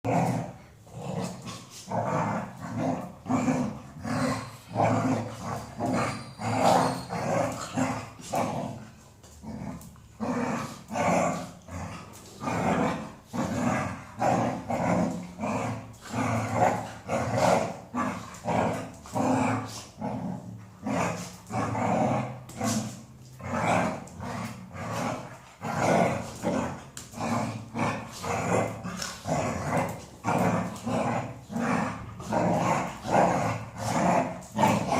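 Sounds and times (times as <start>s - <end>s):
dog growly woofs: 0.0s - 8.8s, 9.4s - 34.9s.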